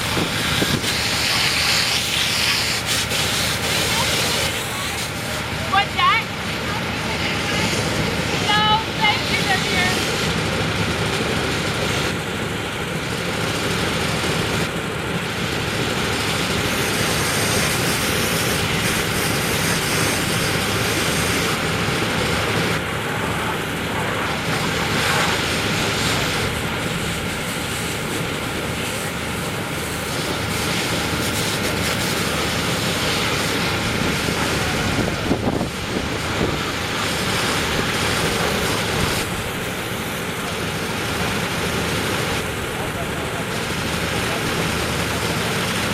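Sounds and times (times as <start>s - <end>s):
vehicle engines running: 0.0s - 45.9s
water spraying from hoses: 0.0s - 45.9s.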